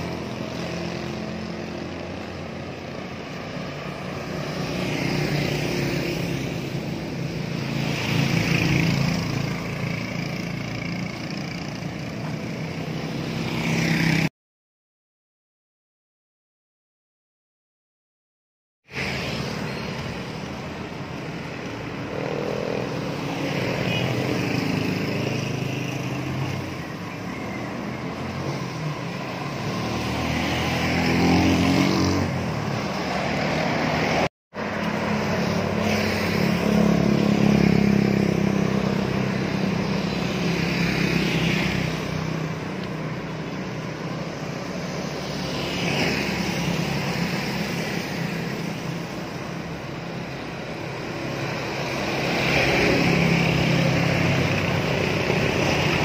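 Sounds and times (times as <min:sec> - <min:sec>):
vehicles passing: 0:00.0 - 0:14.3, 0:18.9 - 0:56.0.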